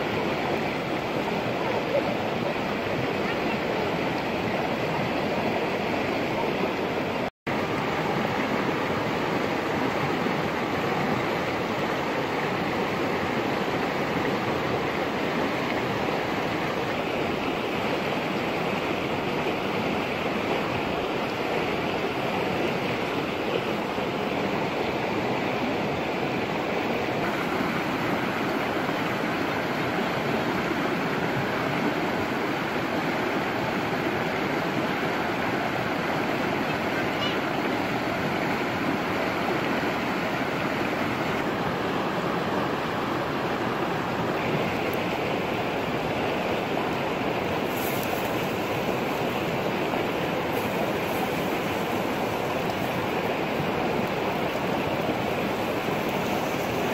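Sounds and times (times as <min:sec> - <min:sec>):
river rushing: 0:00.0 - 0:56.9.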